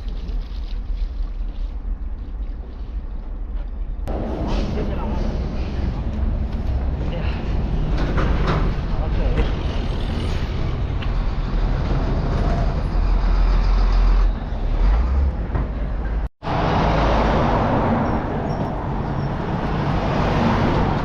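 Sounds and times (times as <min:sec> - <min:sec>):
road noise: 0:00.0 - 0:21.0
traffic: 0:00.0 - 0:21.0.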